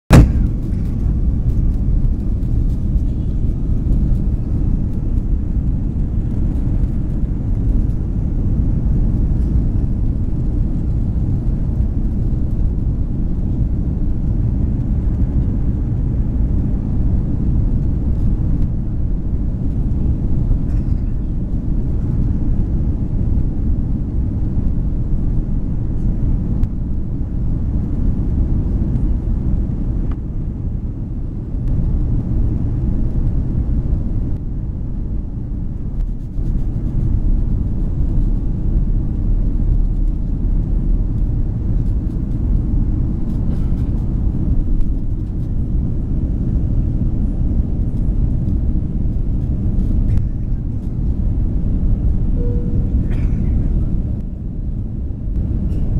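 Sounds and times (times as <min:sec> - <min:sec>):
jet cabin engine rumble: 0:00.1 - 0:55.9.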